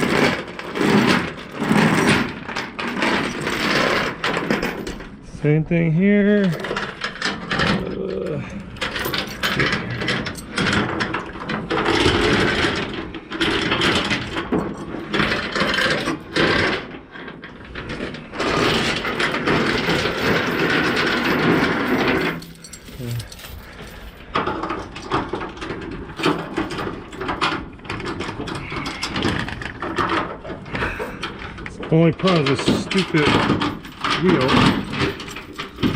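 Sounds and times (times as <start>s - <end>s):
chain scraping: 0.0s - 5.3s, 6.4s - 35.9s
metal chain clanking and rattling: 0.0s - 5.6s, 6.3s - 35.9s.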